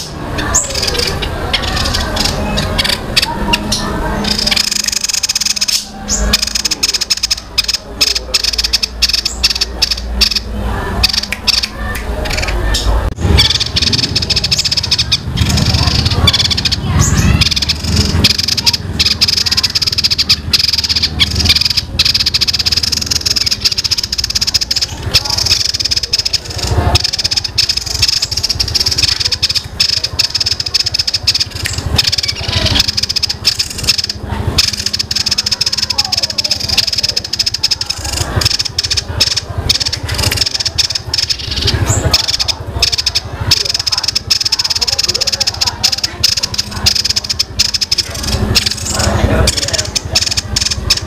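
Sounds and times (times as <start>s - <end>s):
songbird singing rolling chatter: 0.0s - 51.0s.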